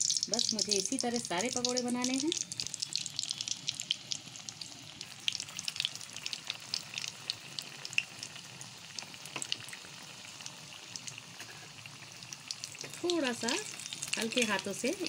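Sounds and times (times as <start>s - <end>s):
deep-frying sizzle with popping: 0.0s - 15.0s.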